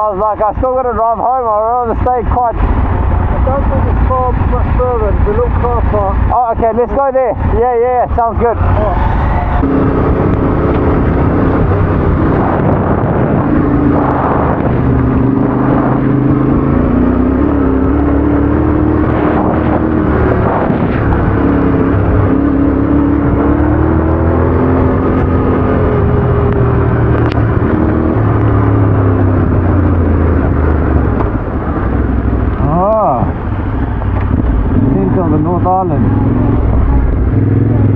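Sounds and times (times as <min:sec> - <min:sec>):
motorcycle engine revving: 0:00.9 - 0:37.9.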